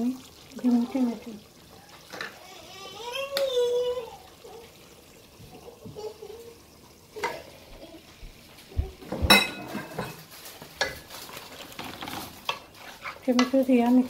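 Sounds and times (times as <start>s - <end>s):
tomatoes frying in a pot: 0.0s - 14.0s.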